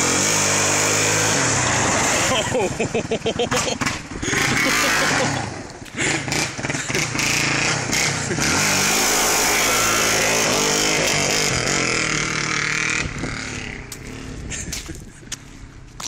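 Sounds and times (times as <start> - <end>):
quad engine revving: 0.0 - 14.7.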